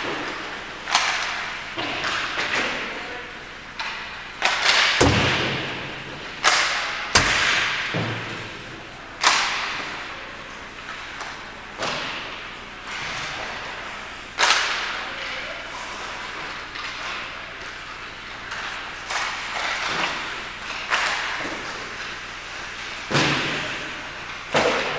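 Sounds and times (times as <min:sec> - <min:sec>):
sharp impacts echoing in hall: 0:00.0 - 0:24.9.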